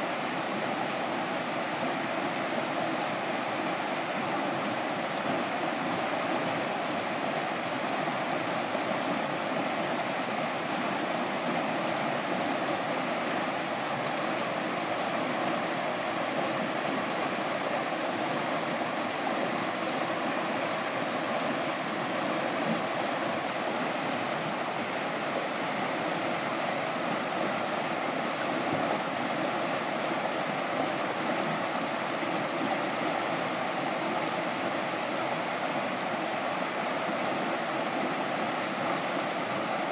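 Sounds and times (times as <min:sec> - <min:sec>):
whitewater rushing through rapids: 0:00.0 - 0:39.9.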